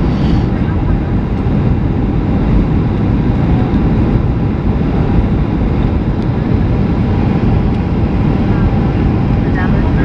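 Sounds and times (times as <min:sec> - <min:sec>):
airplane cabin engine rush: 0:00.0 - 0:10.0.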